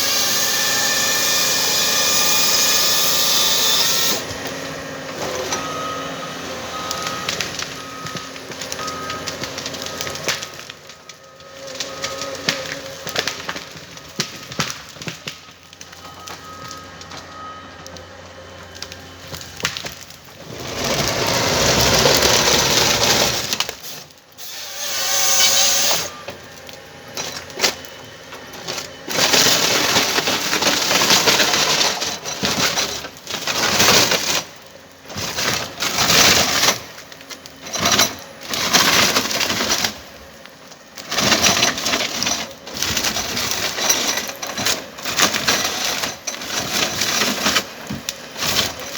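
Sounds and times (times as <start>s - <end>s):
forest harvester working: 0.0s - 48.9s
wood cracking and splintering: 0.0s - 48.9s.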